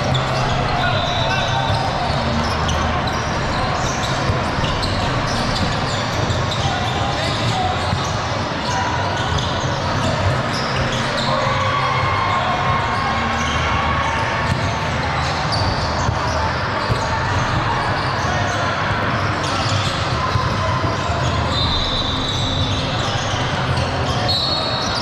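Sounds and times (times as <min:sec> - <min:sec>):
spectators' voices: 0:00.0 - 0:25.0.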